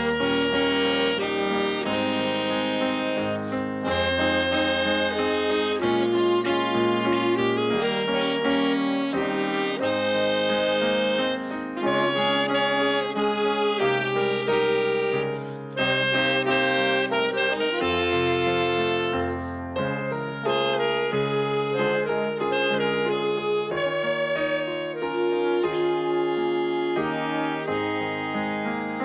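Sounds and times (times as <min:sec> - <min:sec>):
orchestra holding sustained chords: 0:00.0 - 0:29.0.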